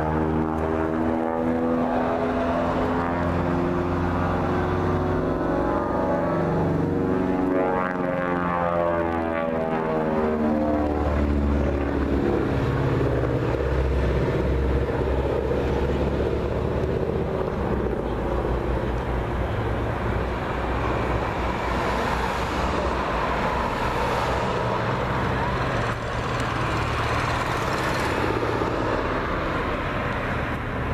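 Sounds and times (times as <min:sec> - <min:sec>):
propeller airplane flying past: 0:00.0 - 0:30.9.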